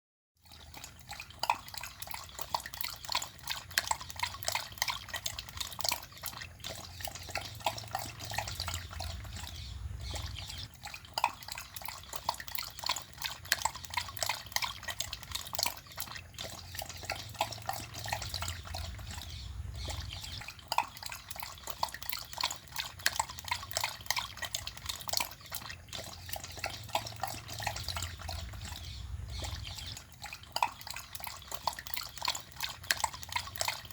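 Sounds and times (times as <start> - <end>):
dog lapping water: 0.4 - 33.9.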